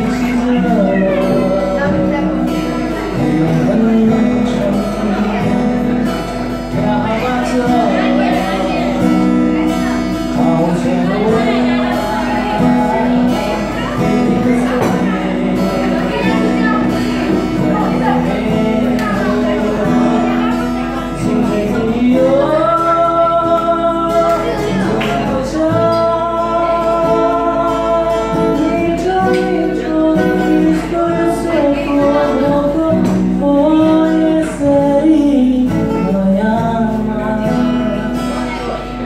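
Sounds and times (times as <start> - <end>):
acoustic guitar: 0.0 - 39.0
man singing: 0.0 - 39.0.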